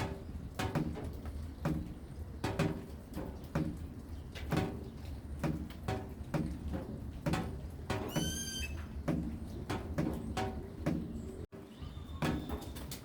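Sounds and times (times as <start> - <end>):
water drops knocking hollowly: 0.0 - 11.2.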